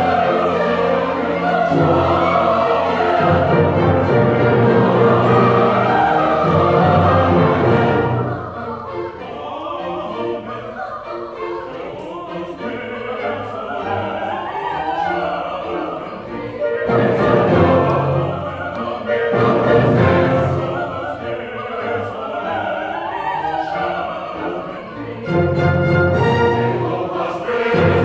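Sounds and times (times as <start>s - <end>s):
mixed choir singing: 0.0s - 28.0s
small instrumental ensemble: 0.0s - 28.0s.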